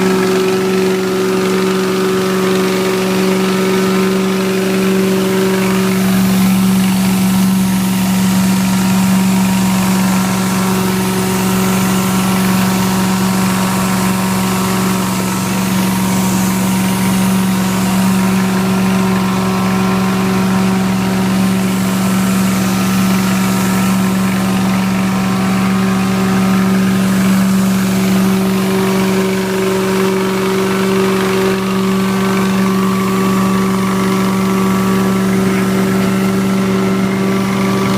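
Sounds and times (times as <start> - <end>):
carpet extractor humming: 0.0 - 37.9.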